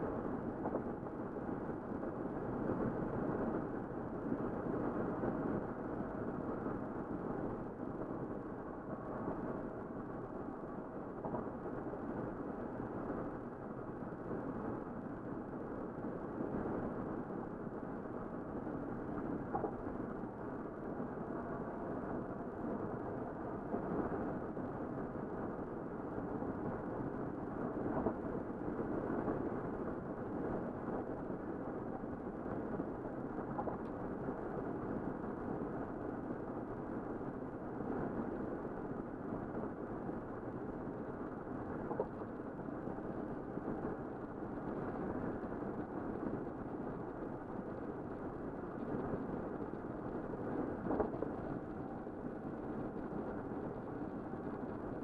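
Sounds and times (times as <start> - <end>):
road and tyre noise inside car: 0.0 - 55.0.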